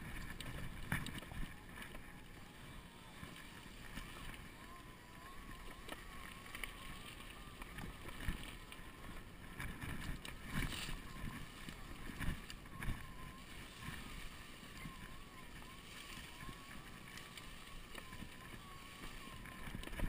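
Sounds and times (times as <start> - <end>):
faint wavering whine: 0.0 - 20.0.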